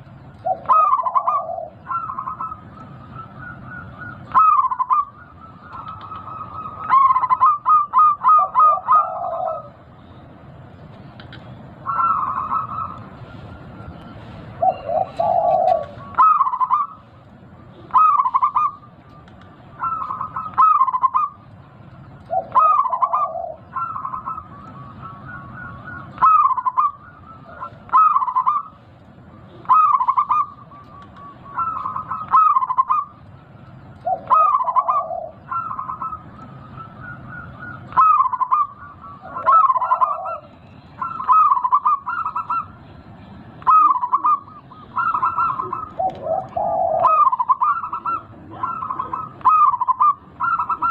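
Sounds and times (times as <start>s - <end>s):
dove cooing: 0.0s - 9.9s, 11.2s - 21.5s, 22.1s - 33.2s, 33.9s - 43.0s, 43.6s - 50.9s.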